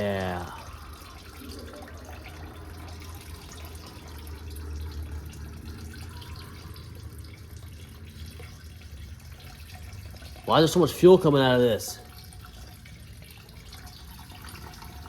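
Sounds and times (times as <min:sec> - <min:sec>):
fuel trickling into container: 0:00.0 - 0:15.0.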